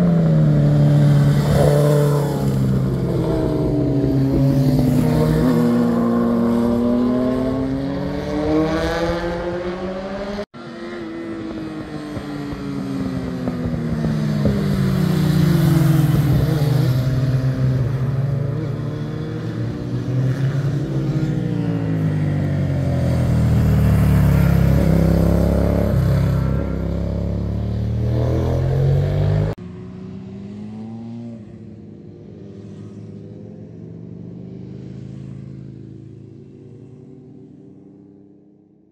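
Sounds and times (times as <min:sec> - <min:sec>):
motorcycle engines passing: 0:00.0 - 0:38.6.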